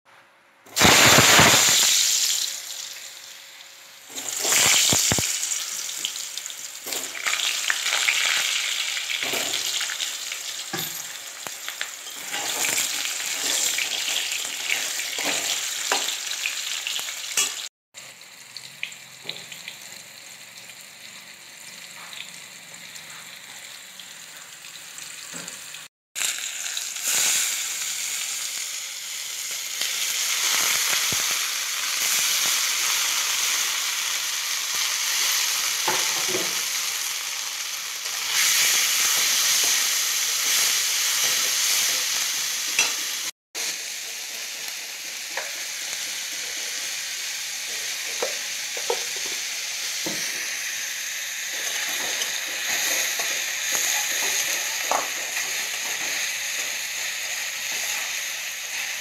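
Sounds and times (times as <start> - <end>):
potatoes sizzling in hot oil: 0.7 - 59.0.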